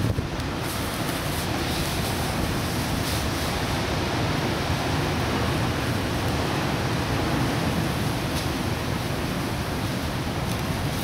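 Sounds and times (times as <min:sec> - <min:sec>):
strong wind blowing: 0:00.0 - 0:11.0.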